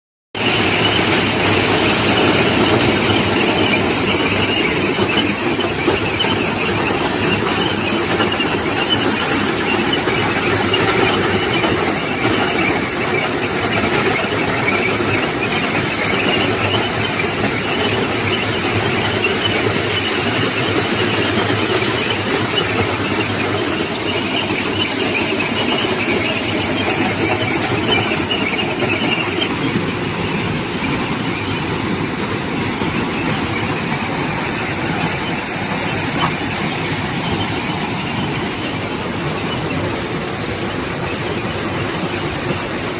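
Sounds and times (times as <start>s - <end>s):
track machine mechanical noise: 0.4s - 42.9s.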